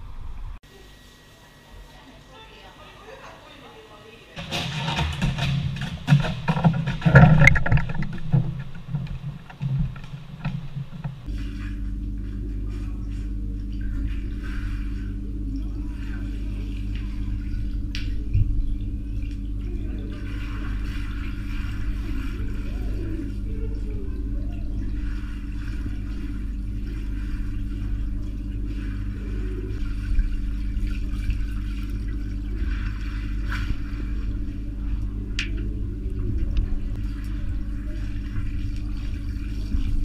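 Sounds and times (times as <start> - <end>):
low underwater hum: 0.0 - 40.0
dog paddling in water: 4.4 - 40.0.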